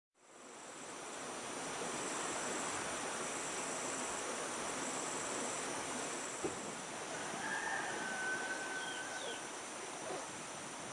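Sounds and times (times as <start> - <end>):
even hiss: 0.2 - 10.9
insects droning: 0.2 - 10.9.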